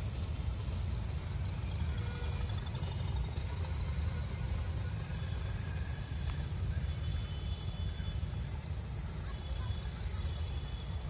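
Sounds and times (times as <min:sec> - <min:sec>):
train coaches rumbling: 0:00.0 - 0:11.0.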